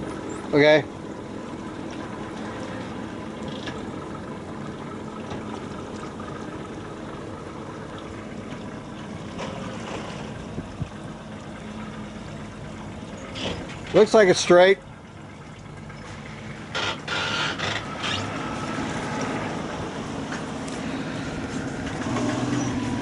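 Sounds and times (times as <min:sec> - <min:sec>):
boat engine idling: 0:00.0 - 0:23.0
water around hull: 0:00.0 - 0:23.0.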